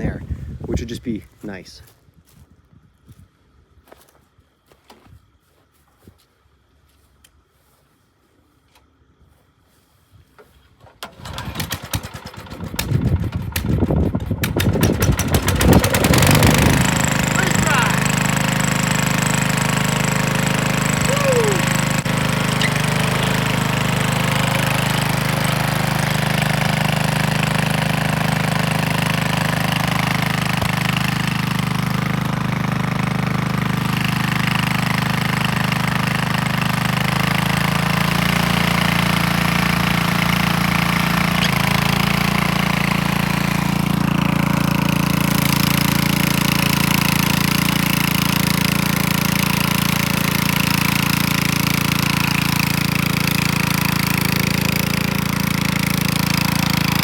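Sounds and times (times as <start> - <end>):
machine engine running: 11.0 - 57.0.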